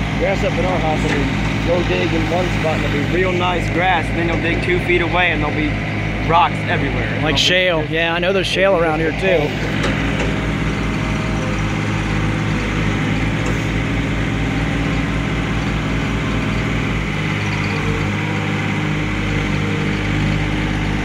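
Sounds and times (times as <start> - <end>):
backhoe digging: 0.0 - 21.0
tractor diesel engine running: 0.0 - 21.0.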